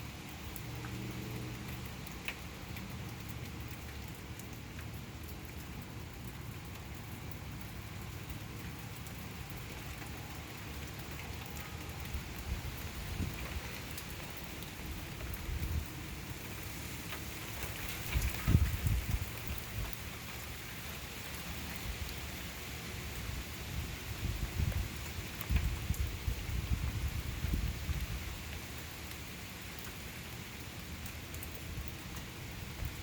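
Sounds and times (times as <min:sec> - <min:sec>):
sharp drip ticks: 0:00.0 - 0:22.4, 0:24.6 - 0:26.1, 0:27.1 - 0:33.0
steady rain hissing: 0:00.0 - 0:33.0.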